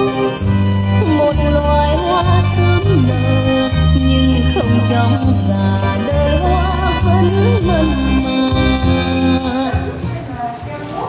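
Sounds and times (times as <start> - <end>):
heavy bass: 0.0 - 10.2
song with singer over loudspeakers: 0.0 - 11.0.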